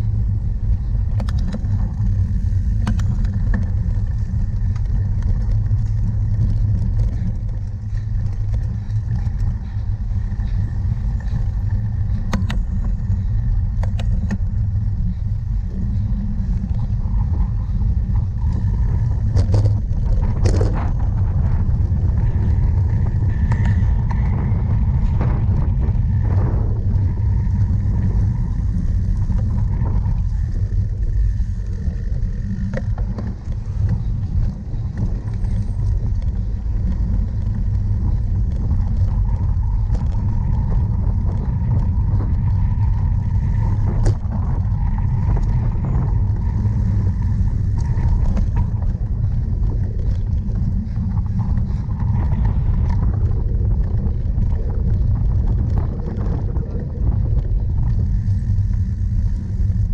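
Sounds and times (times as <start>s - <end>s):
bike clicks and rattles: 0.0s - 59.9s
wind and bike ride rumble: 0.0s - 59.9s.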